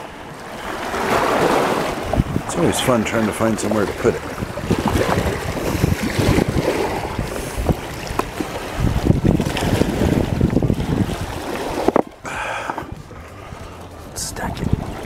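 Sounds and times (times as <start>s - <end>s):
river water washing on shore: 0.0s - 15.0s
wind buffeting microphone: 0.0s - 15.0s.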